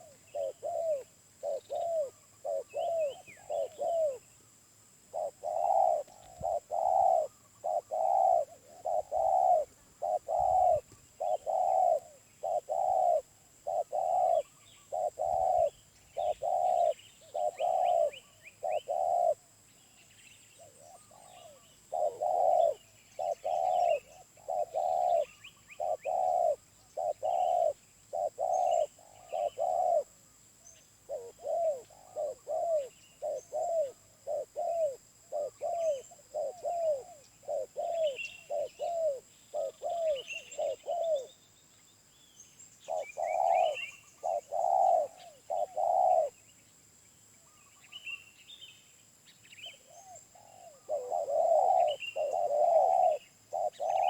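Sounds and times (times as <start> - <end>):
dove cooing: 0.0 - 4.3, 5.1 - 19.5, 20.6 - 30.2, 31.0 - 41.4, 42.9 - 46.4, 49.8 - 54.0
small birds chirping: 0.0 - 46.8, 47.4 - 54.0.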